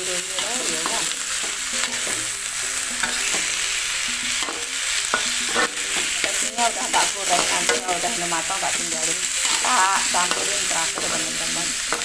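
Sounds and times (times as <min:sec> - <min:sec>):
vegetables sizzling in oil: 0:00.0 - 0:12.0
metal spatula scraping a pan: 0:00.4 - 0:12.0.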